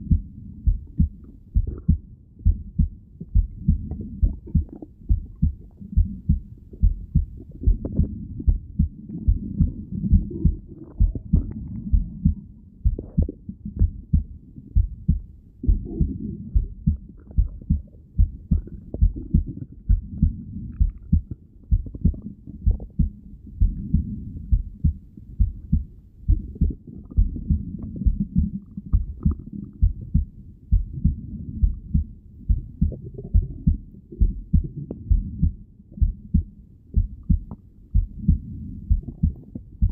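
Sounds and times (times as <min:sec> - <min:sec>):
faint low rumble: 0:00.0 - 0:39.9
heartbeat thumps: 0:00.0 - 0:39.9.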